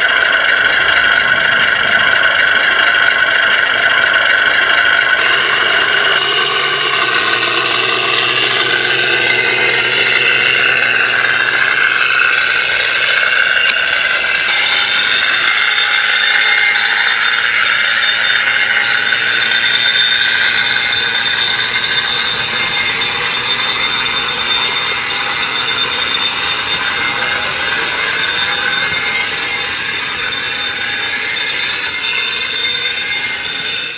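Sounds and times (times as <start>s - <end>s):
toy motors whirring and rattling: 0.0s - 33.9s.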